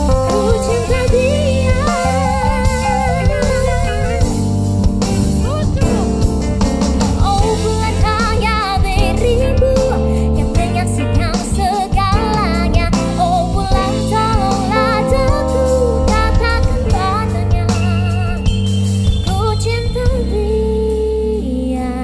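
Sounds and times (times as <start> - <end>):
woman singing with vibrato: 0.0 - 4.3, 7.2 - 18.6, 19.3 - 22.0
live band with drums and guitar: 0.0 - 21.3.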